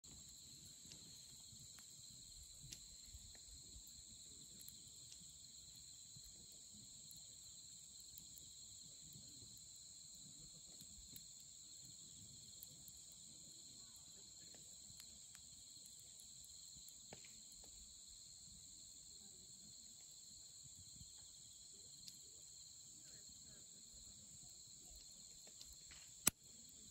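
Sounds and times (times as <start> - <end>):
firewood popping and crackling: 0.0 - 19.0, 19.6 - 23.0, 24.0 - 26.9
night insects chirping: 0.0 - 26.9.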